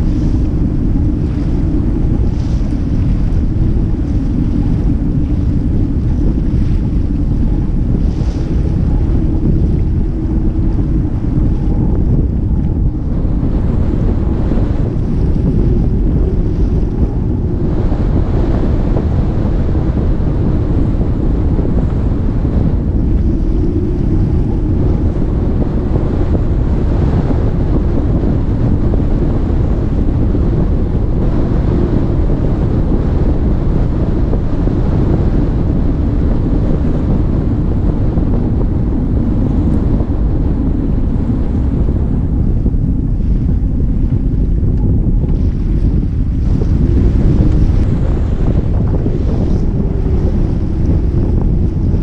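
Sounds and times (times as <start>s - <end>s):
water rushing along hull: 0.0s - 52.0s
wind buffeting microphone: 0.0s - 52.0s.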